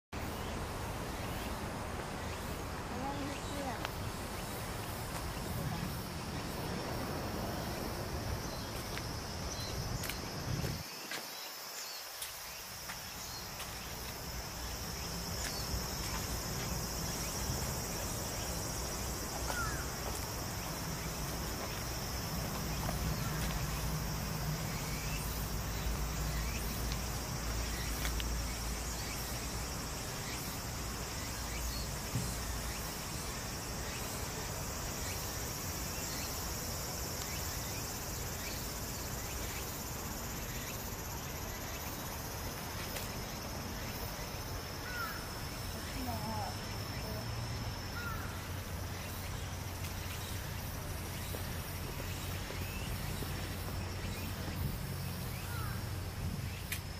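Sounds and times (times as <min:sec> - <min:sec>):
insects trilling: 0:00.2 - 0:56.9.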